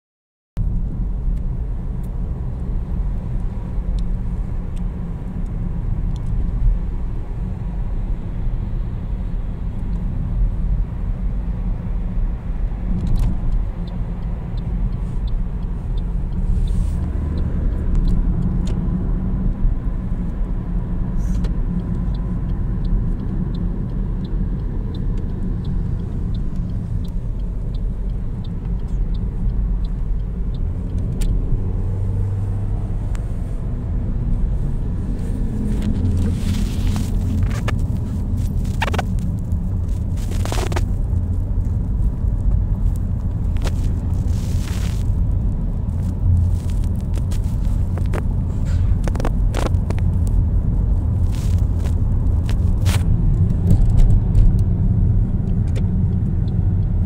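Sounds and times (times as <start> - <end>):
car engine and tyre rumble: 0.6 - 57.0.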